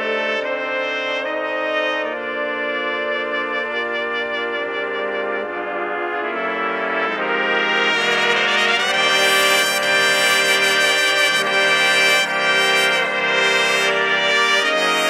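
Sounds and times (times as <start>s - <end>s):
trumpets playing chords: 0.0s - 15.0s.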